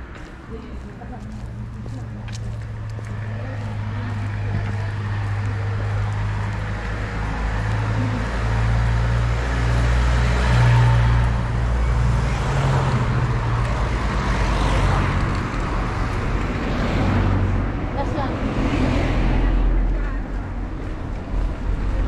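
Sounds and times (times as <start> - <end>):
tyre noise of passing cars: 0.0 - 22.0
vehicle engine humming: 0.0 - 22.0.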